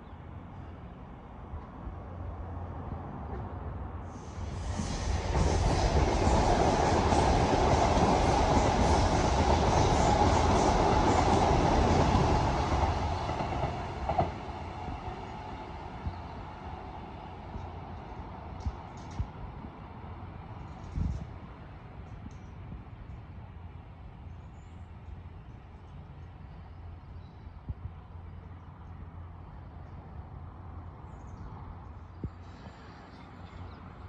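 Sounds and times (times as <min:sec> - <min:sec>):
train passing on track: 0:00.0 - 0:27.2, 0:27.8 - 0:34.0.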